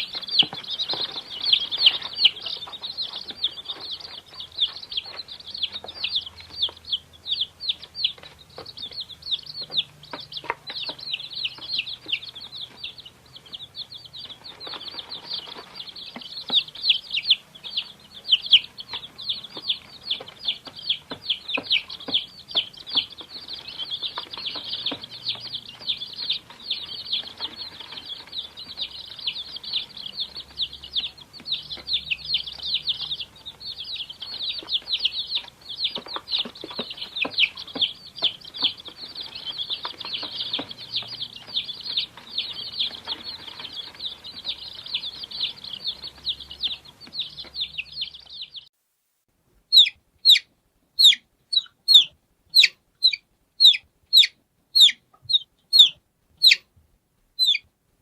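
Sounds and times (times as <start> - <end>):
chicks cheeping: 0.0 - 48.7, 49.7 - 56.7, 57.4 - 57.7.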